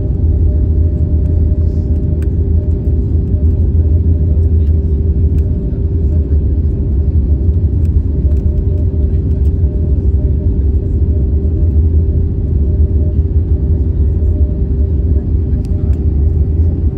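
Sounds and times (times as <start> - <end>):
steady cabin hum: 0.0 - 16.9.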